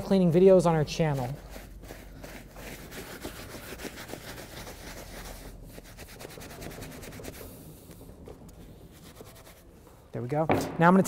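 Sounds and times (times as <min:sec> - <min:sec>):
brush scrubbing leather: 0:00.3 - 0:09.8.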